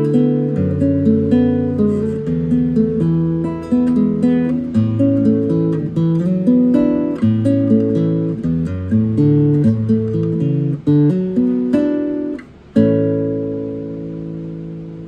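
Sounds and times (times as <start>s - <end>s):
classical guitar playing: 0.0s - 15.0s.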